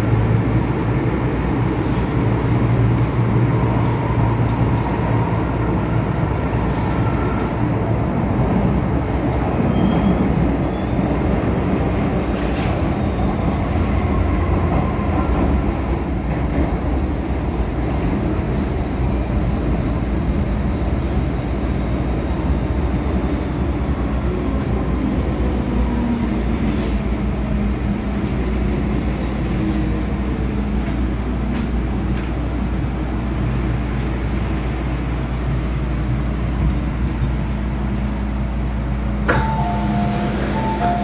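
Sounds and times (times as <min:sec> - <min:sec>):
train wheels and motors rumbling: 0:00.0 - 0:41.0.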